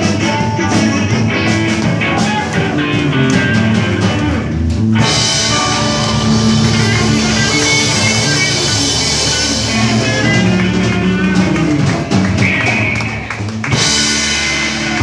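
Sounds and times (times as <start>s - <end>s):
drum kit beat: 0.0s - 15.0s
electric guitars: 0.0s - 15.0s.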